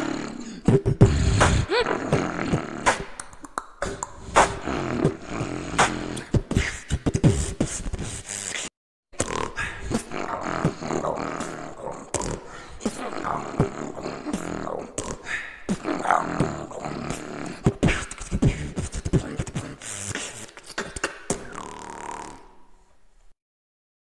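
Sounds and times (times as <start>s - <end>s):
human beatboxing: 0.0s - 22.6s.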